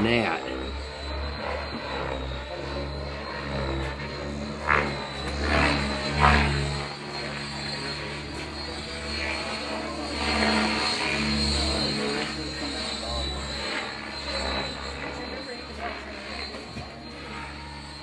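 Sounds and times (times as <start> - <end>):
helicopter motor whine: 0.0 - 18.0
rotor drone: 0.0 - 18.0.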